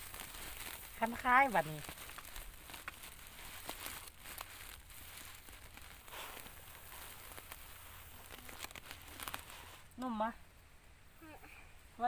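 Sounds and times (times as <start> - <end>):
straw rustling and crackling: 0.0 - 10.4.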